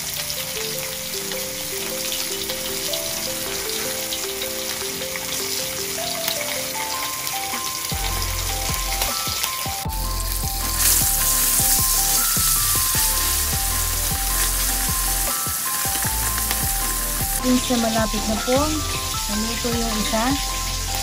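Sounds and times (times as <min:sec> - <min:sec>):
background music: 0:00.0 - 0:21.0
fish sizzling in hot oil: 0:00.0 - 0:21.0.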